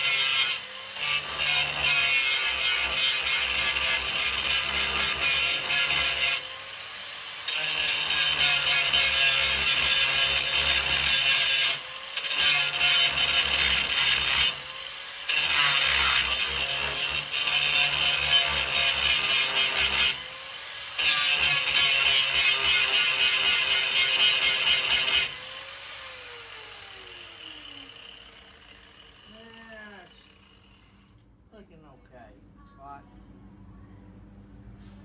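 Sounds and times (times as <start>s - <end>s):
angle grinder grinding steel: 0.0s - 31.2s.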